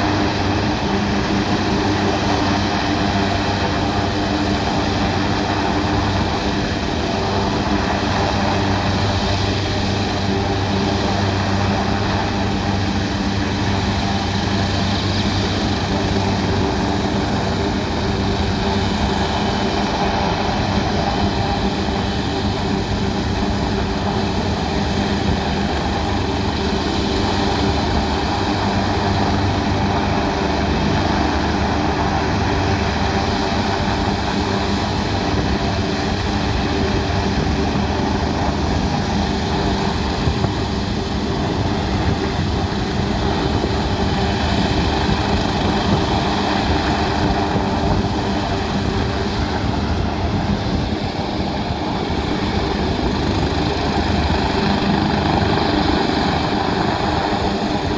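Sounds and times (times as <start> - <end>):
helicopter hovering: 0.0 - 57.9.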